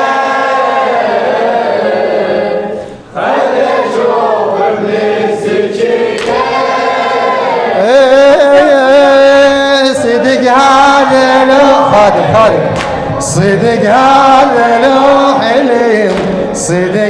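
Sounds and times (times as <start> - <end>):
group voices singing a lament: 0.0 - 17.0.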